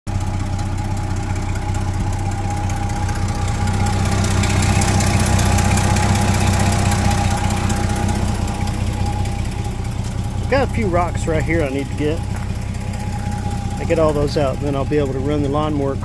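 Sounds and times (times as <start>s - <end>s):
truck engine idling: 0.1s - 16.0s.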